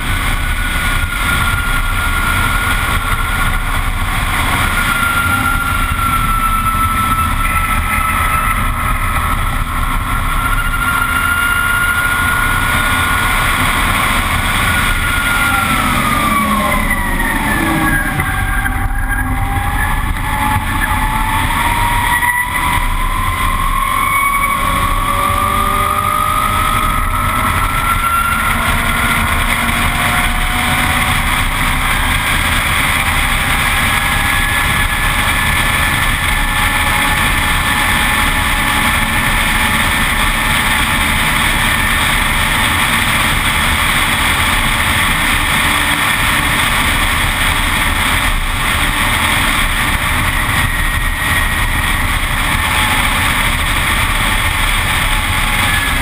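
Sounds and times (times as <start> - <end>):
electric motor whine: 0.0 - 56.0
wind rush over microphone: 0.0 - 56.0.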